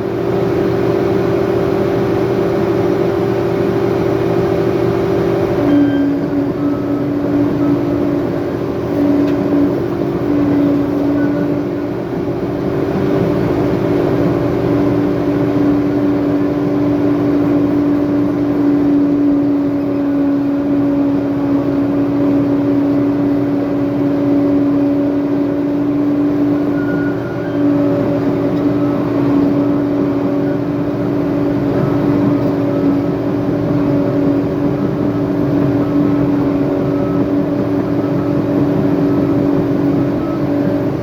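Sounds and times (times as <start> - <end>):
diesel engine running under load: 0.0 - 41.0
steady machine whine: 0.0 - 41.0.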